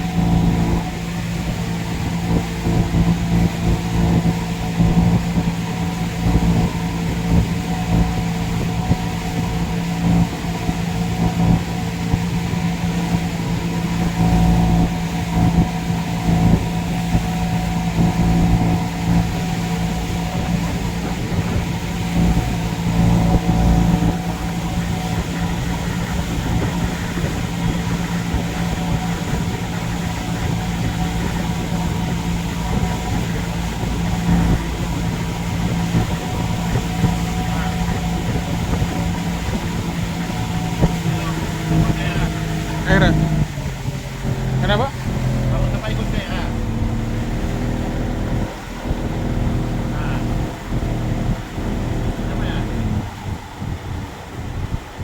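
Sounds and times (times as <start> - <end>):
boat engine drone: 0.0 - 55.0.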